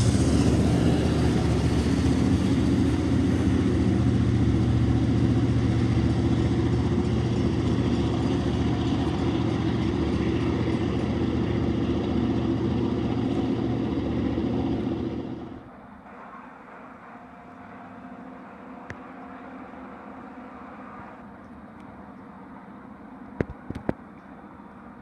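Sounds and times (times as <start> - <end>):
locomotive engine drone: 0.0 - 25.0
train cars rumbling on rails: 0.0 - 25.0.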